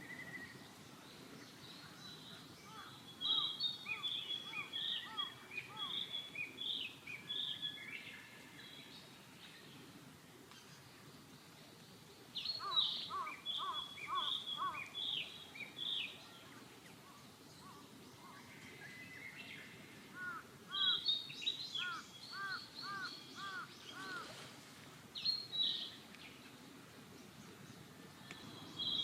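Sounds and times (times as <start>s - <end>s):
birds chirping: 0.0s - 24.5s, 25.2s - 29.0s
outdoor background noise: 0.0s - 29.0s.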